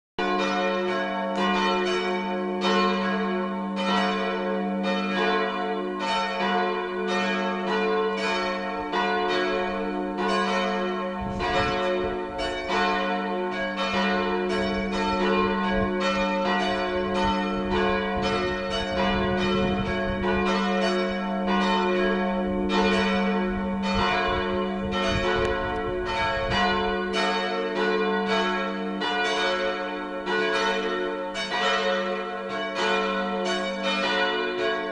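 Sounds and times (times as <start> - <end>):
church bells pealing: 0.2 - 34.9.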